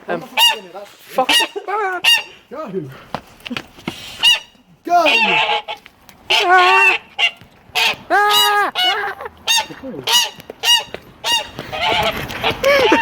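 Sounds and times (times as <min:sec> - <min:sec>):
goose honking: 0:00.1 - 0:02.5, 0:04.2 - 0:13.0.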